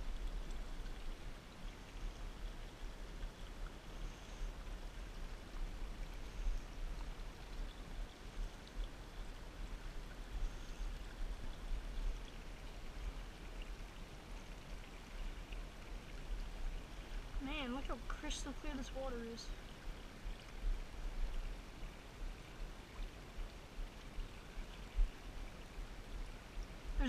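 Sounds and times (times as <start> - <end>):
creek trickling over rocks: 0.0 - 27.0.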